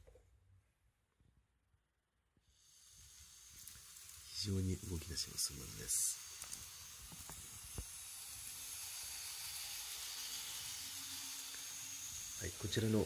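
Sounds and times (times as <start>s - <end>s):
model train hissing and humming: 2.4s - 13.0s.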